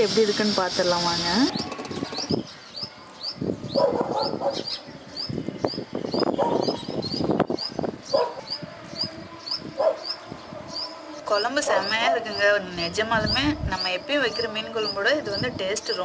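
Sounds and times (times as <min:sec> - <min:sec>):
wind gusting against microphone: 0:00.6 - 0:16.0.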